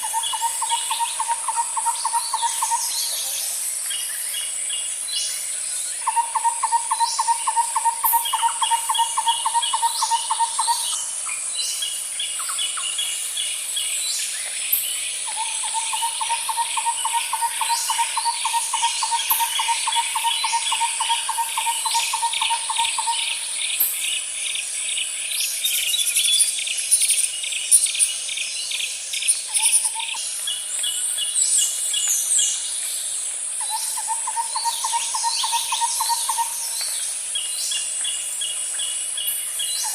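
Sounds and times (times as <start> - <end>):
birds chirping and calling: 0.0 - 3.5, 6.0 - 32.6, 33.6 - 39.9
high insect drone: 0.0 - 39.9.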